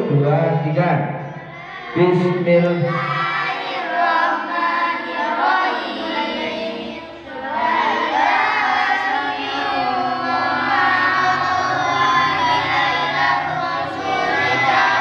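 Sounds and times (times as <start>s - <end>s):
boys chanting in unison: 1.2s - 15.0s.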